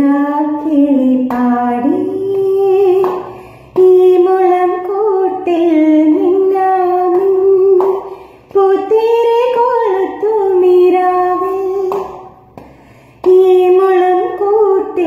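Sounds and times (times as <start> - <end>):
woman singing unaccompanied: 0.0 - 12.4, 13.2 - 15.0.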